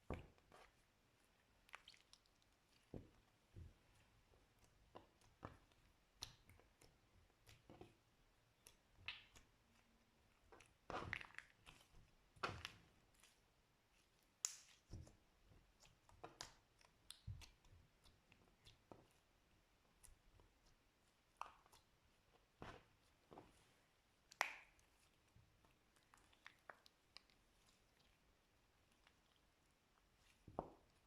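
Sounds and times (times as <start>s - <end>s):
slime squelching and crackling: 0.0s - 31.0s.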